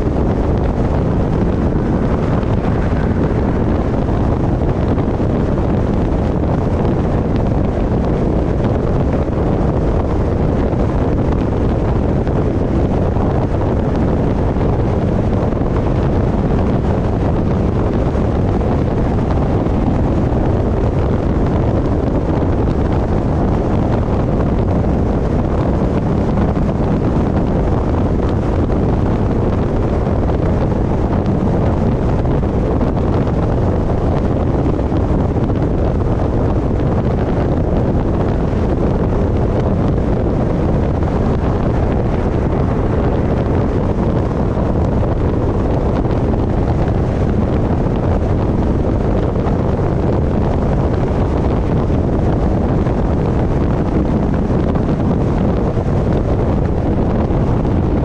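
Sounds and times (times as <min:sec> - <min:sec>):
wind buffeting camera: 0:00.0 - 0:58.0.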